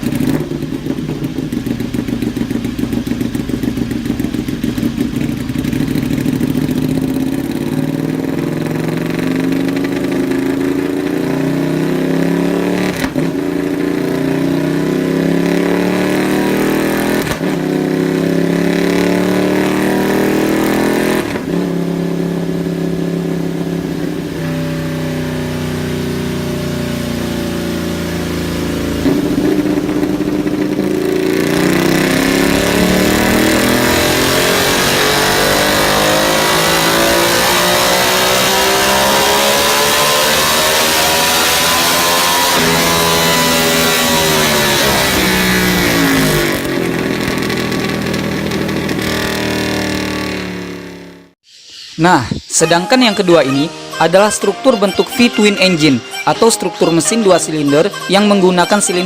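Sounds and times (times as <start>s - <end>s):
motorcycle engine revving: 0.0s - 51.4s.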